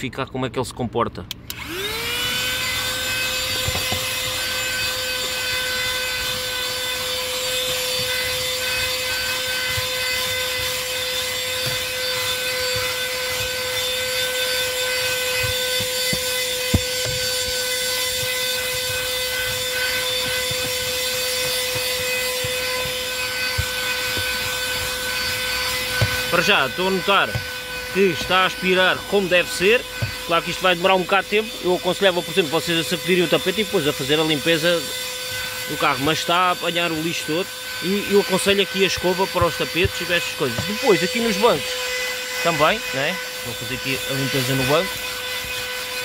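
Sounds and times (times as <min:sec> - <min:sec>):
handheld vacuum whining: 0:01.5 - 0:46.0.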